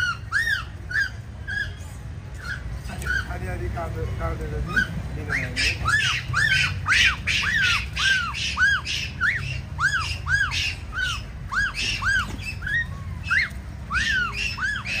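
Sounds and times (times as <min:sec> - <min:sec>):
bird squawking: 0:00.0 - 0:15.0.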